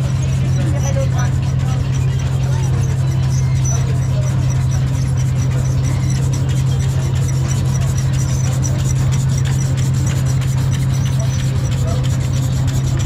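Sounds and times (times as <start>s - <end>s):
high squeak: 0.0s - 13.0s
machine humming: 0.0s - 13.0s.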